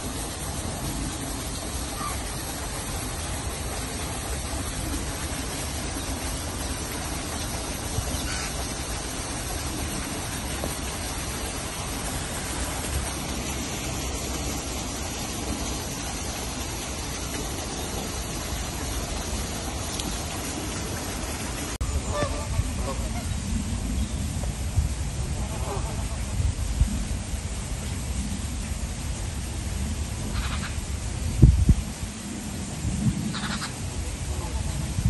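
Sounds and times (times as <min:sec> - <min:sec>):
outdoor background rumble: 0:00.0 - 0:35.0.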